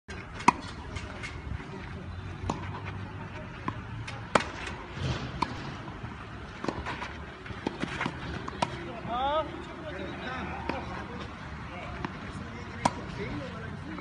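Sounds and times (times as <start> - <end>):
tennis balls hit with rackets: 0.1 - 9.4, 10.5 - 14.0.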